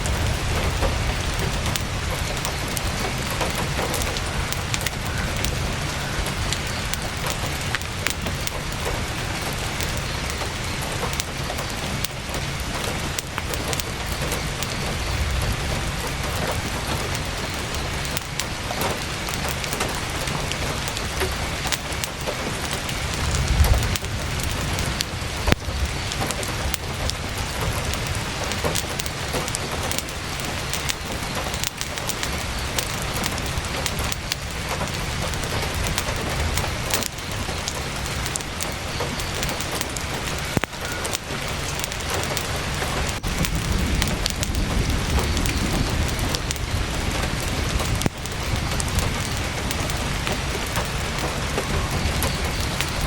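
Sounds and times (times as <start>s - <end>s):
campfire crackling: 0.0s - 53.0s
heavy rain on tent fabric: 0.0s - 53.0s.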